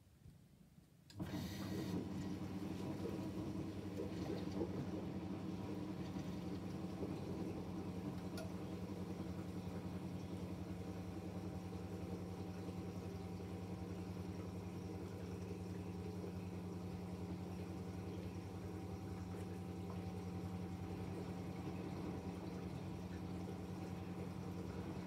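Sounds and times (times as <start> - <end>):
washing machine hum: 1.1 - 25.0
water sloshing inside machine: 1.2 - 25.0.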